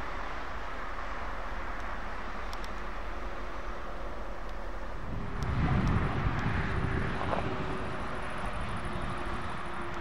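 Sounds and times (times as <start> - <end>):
diesel truck passing: 0.0 - 10.0.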